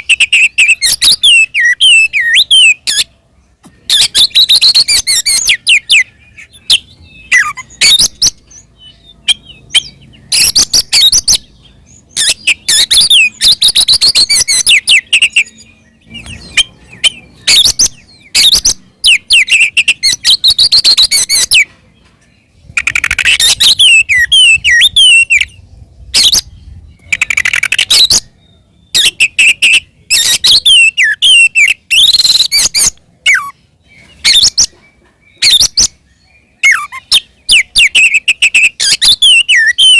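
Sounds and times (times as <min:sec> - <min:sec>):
bird singing whistles and trills: 0:00.0 - 0:21.8, 0:22.4 - 0:39.9.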